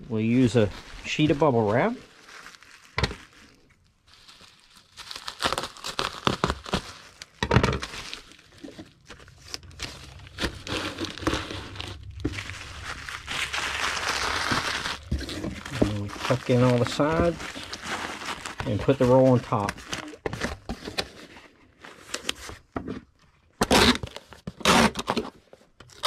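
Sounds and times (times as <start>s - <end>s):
bubble wrap crinkling: 0.0s - 22.7s.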